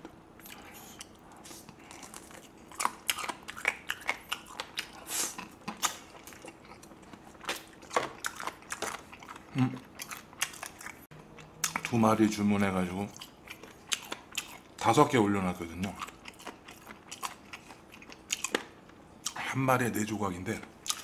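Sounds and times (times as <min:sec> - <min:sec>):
faint steady hum: 0:00.0 - 0:21.0
wet biting and chewing: 0:00.4 - 0:12.0, 0:13.1 - 0:14.9, 0:15.8 - 0:19.4.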